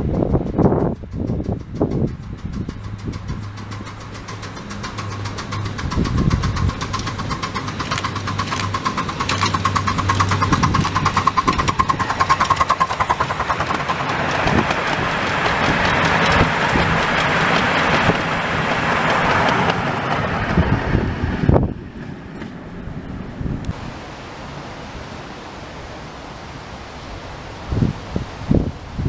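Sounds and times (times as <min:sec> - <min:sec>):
miniature steam locomotive exhaust beats: 0:00.0 - 0:23.8.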